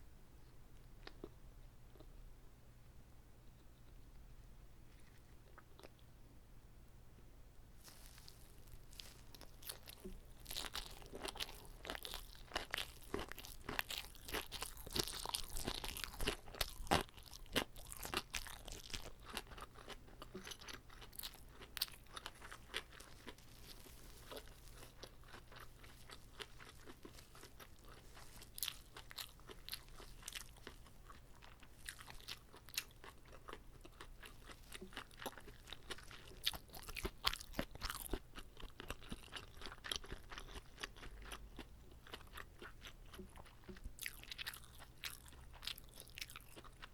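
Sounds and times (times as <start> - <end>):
crisp biting and chewing: 7.8 - 46.9.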